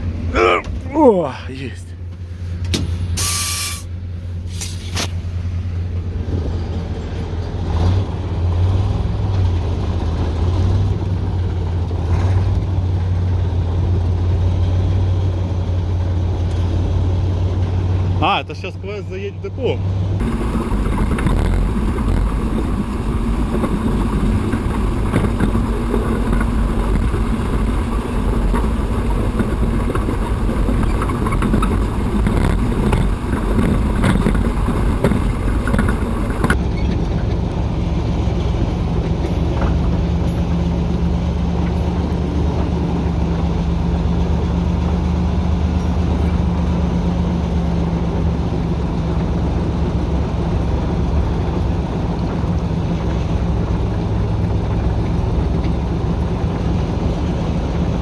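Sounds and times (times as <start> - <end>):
locomotive diesel engine running: 0.0 - 58.0.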